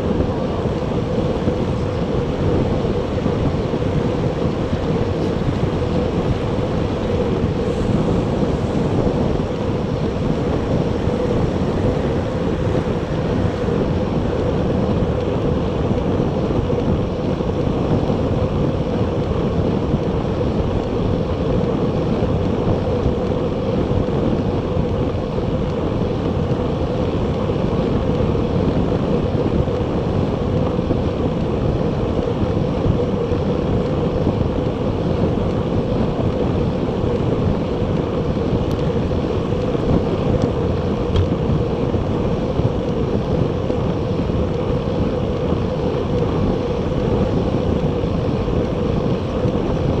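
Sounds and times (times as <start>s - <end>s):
bicycle road noise: 0.0s - 50.0s
wind noise on microphone: 0.0s - 50.0s.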